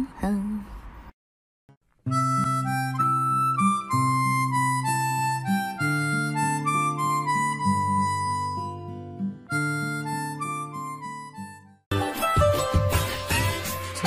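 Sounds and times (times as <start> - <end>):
instrumental background music: 2.1 - 14.0.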